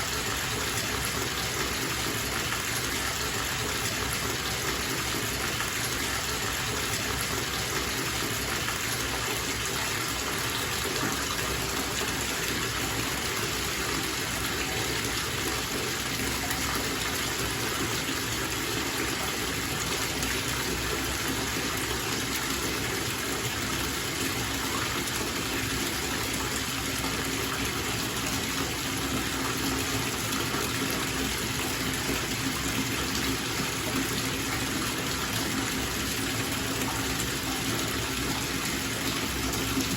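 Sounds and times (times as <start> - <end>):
bathtub tap running: 0.0 - 39.9.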